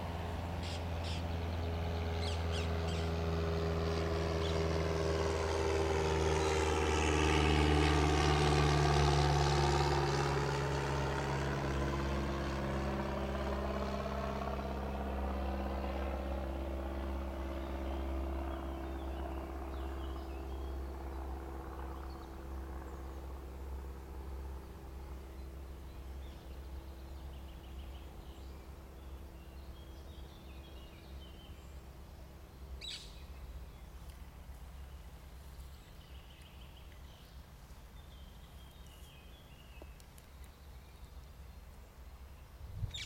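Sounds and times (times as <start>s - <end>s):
passing vehicle engine hum: 0.0s - 43.0s.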